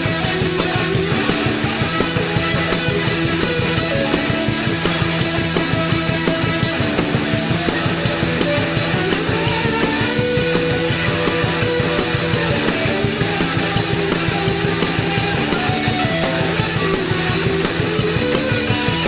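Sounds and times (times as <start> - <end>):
guitar: 0.0 - 19.0
rock band playing: 0.0 - 19.0
steady drum beat: 0.0 - 19.0.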